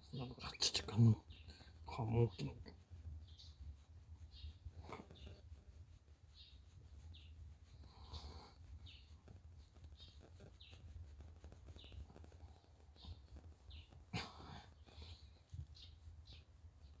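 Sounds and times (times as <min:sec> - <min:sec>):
small bird chirping: 0:00.0 - 0:05.6, 0:06.3 - 0:17.0.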